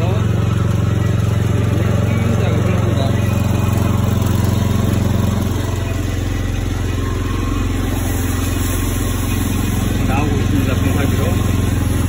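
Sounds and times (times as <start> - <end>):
power sprayer engine running: 0.0 - 12.0.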